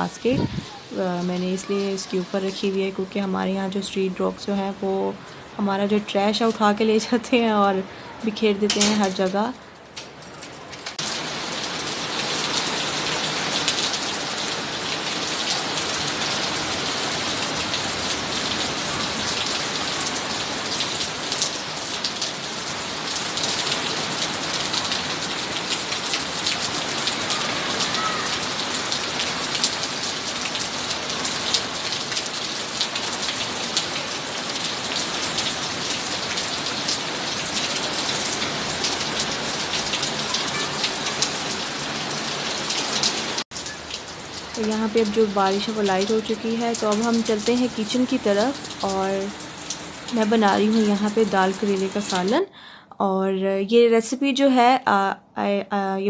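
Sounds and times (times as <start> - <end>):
rain falling: 0.0 - 52.5.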